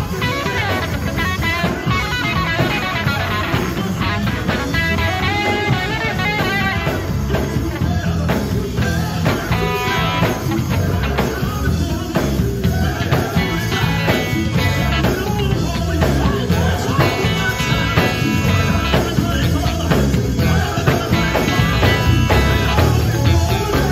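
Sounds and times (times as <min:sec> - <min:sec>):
drum kit: 0:00.0 - 0:23.9
electric bass: 0:00.0 - 0:23.9
electric guitar: 0:00.0 - 0:23.9
men singing into microphones: 0:00.0 - 0:23.9.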